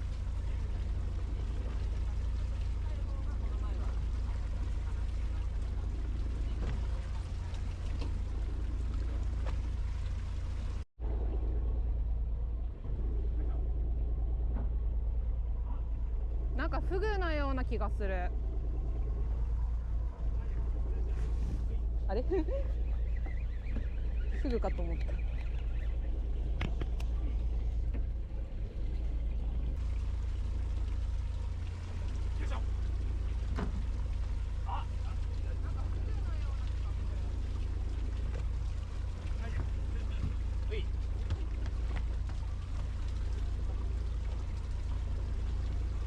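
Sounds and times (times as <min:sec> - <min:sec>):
boat engine rumbling: 0:00.0 - 0:46.0
wind and water hiss: 0:00.0 - 0:46.0.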